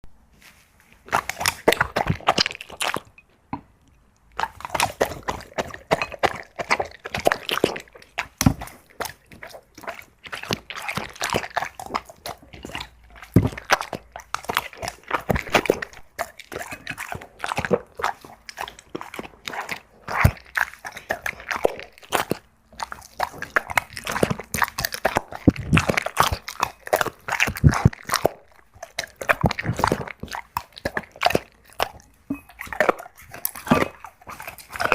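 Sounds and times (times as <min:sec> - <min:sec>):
dog chewing and crunching food: 0:00.3 - 0:03.5, 0:04.2 - 0:34.9.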